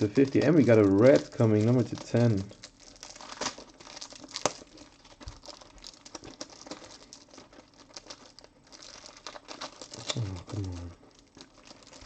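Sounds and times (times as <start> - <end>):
card wrapping crinkling and rustling: 0.0 - 12.0.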